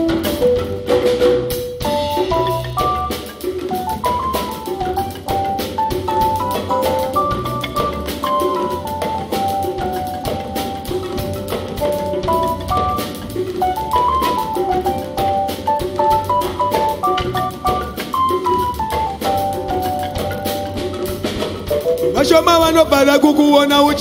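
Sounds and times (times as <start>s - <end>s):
melody of short notes: 0.0s - 23.8s
drum kit and hand drums: 0.0s - 24.0s.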